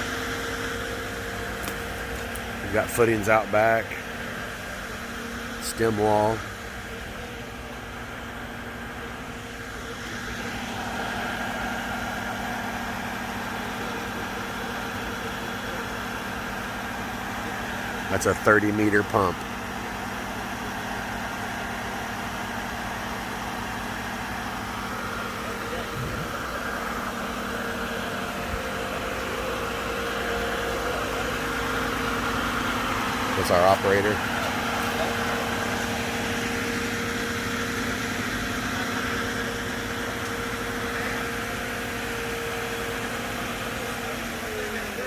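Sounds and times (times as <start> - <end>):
concrete pump engine and hydraulics: 0.0 - 45.0.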